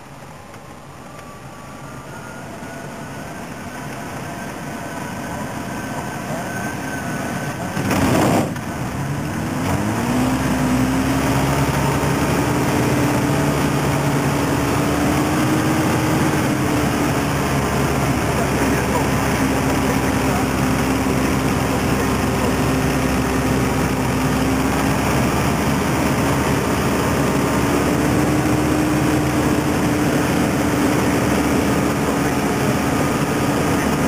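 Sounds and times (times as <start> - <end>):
microlight aircraft engine: 0.0 - 34.0
loud rush of noise: 0.7 - 34.0.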